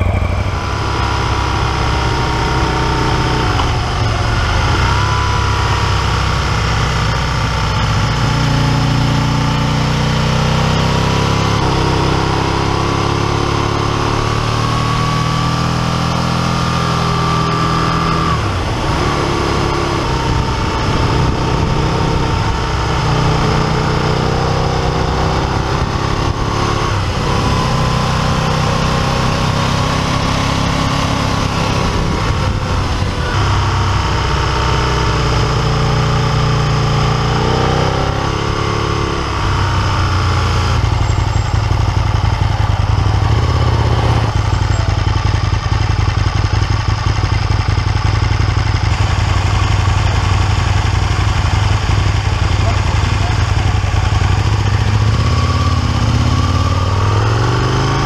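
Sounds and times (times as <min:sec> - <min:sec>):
motorcycle engine revving: 0:00.0 - 0:58.0
wind and road rush: 0:00.0 - 0:58.0.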